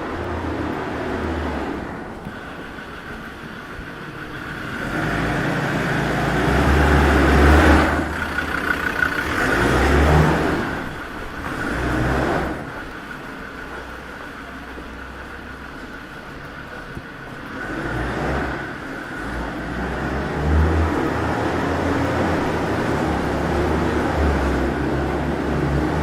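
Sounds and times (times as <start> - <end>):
cars passing on street: 0.0 - 26.0
low traffic rumble: 0.0 - 26.0.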